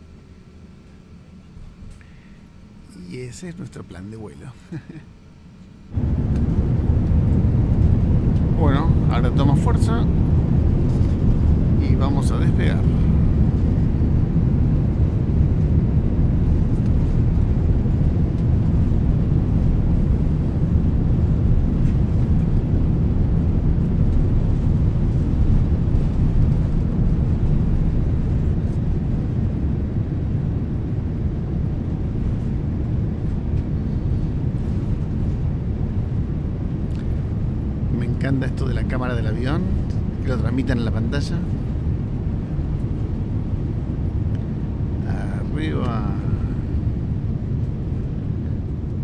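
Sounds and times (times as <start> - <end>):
jet engines rumbling in cabin: 0.0 - 49.0.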